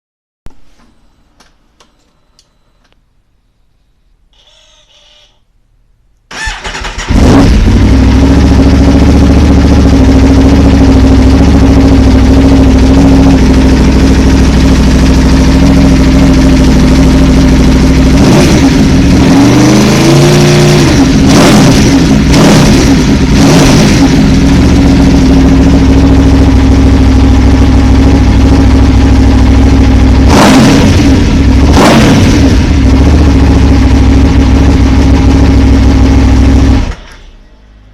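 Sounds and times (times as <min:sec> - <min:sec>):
motorcycle engine idling and revving: 0:06.3 - 0:37.9.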